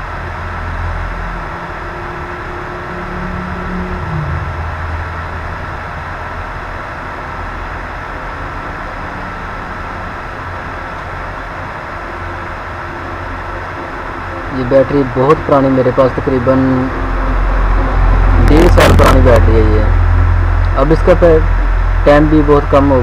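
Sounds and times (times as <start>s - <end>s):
background hum and hiss: 0.0s - 23.0s
thin high whine: 0.0s - 23.0s.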